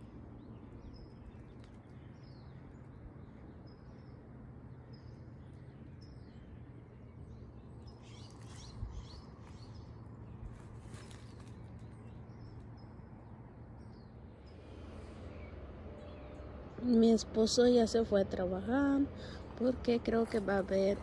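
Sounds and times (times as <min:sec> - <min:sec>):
low background rumble: 0:00.0 - 0:21.0
small birds chirping: 0:00.0 - 0:21.0.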